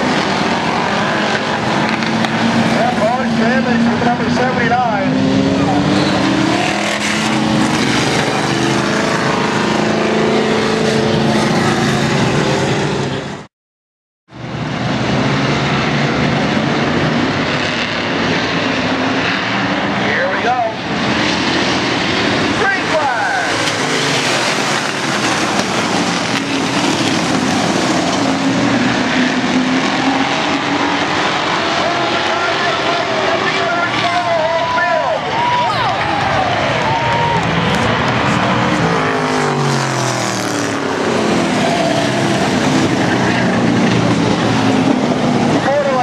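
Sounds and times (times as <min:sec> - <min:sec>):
racing car engines: 0:00.0 - 0:13.5, 0:14.3 - 0:46.0.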